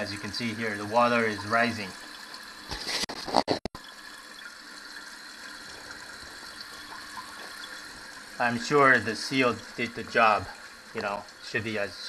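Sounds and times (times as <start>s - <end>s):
toilet tank refilling: 0.0s - 12.0s.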